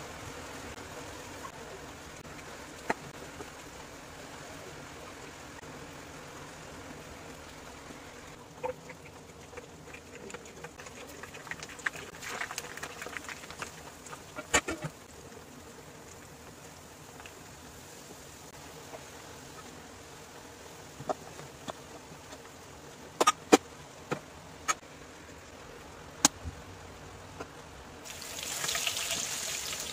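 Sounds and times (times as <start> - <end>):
food frying in hot oil: 0.0 - 25.9, 28.0 - 29.9.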